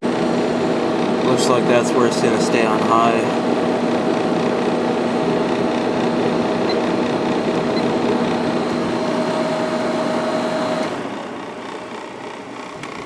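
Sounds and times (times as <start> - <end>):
air conditioner air rush: 0.0 - 12.9
compressor hum: 0.0 - 13.0.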